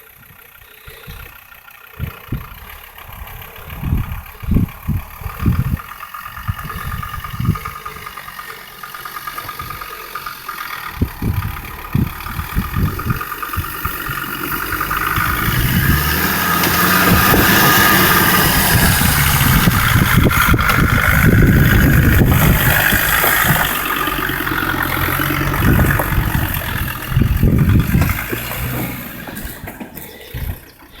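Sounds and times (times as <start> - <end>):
vehicle engine under load: 0.0 - 31.0.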